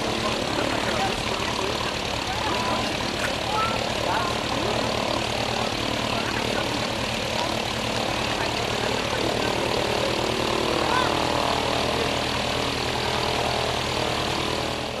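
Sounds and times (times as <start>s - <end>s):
propeller aircraft engine running: 0.0s - 15.0s.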